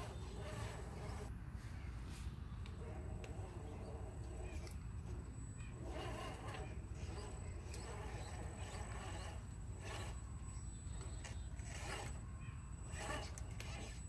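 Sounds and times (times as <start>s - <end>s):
suspension squeaking and creaking: 0.0s - 1.3s, 2.7s - 14.0s
toy crawler climbing over rocks: 0.0s - 1.3s, 2.8s - 14.0s.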